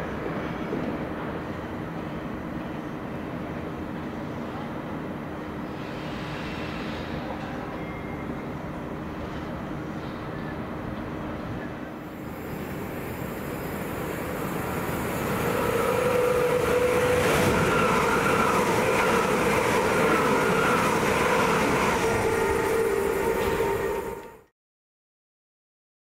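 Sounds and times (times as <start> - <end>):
train running: 0.0 - 24.5.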